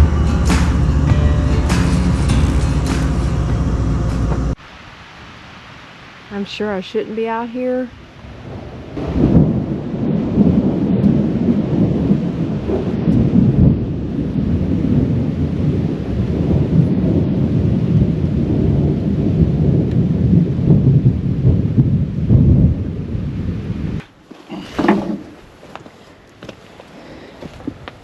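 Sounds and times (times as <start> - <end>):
rain: 0.0 - 24.0.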